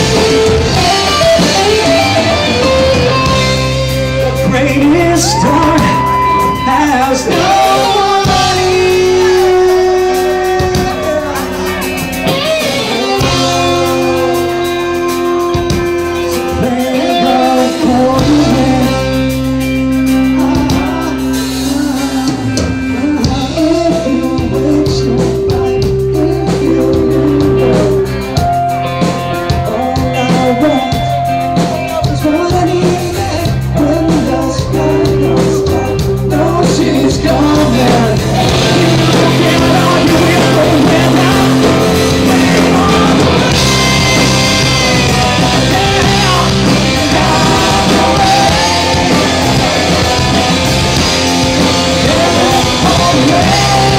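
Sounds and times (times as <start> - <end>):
bass line: 0.0 - 53.9
guitar: 0.0 - 53.9
live rock band playing: 0.0 - 53.9
person singing: 0.0 - 53.9.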